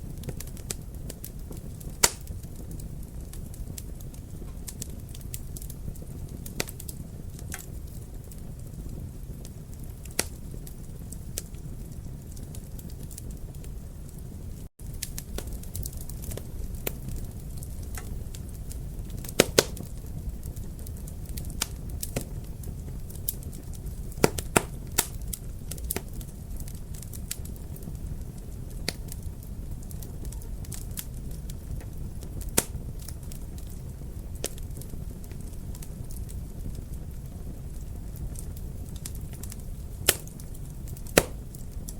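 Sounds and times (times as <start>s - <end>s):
fire flames rumbling: 0.0s - 41.9s
fire popping: 0.0s - 41.9s.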